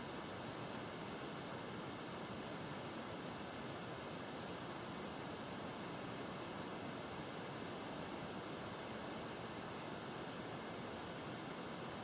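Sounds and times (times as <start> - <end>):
faint room tone hiss: 0.0 - 12.0.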